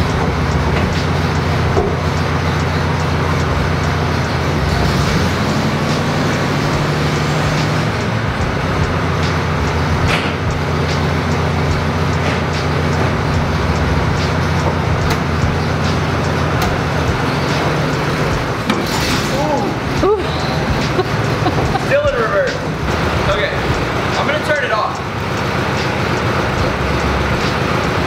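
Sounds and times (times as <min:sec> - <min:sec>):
air-cooled engine idling: 0:00.0 - 0:28.0.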